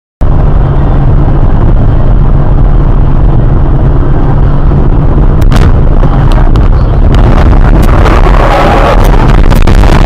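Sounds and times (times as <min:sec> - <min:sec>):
car road and engine rumble: 0:00.2 - 0:10.0.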